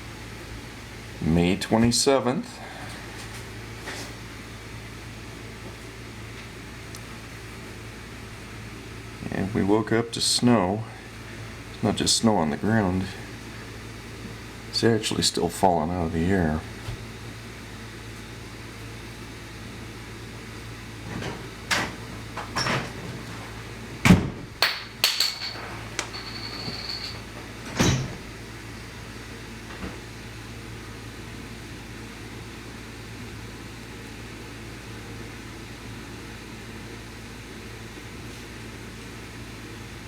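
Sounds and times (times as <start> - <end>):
steady low hum: 0.0 - 37.2.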